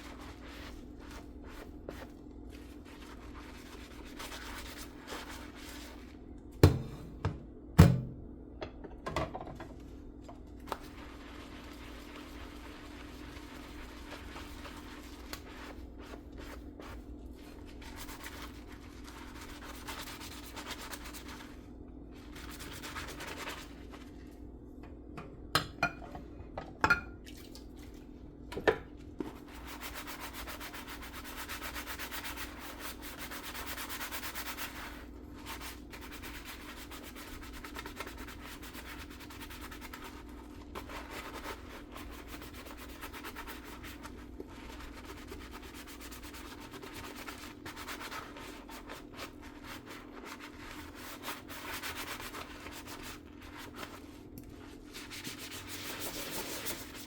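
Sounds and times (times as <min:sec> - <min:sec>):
sponge scrubbing dishes: 0:00.0 - 0:07.2, 0:09.5 - 0:24.4, 0:28.9 - 0:57.0.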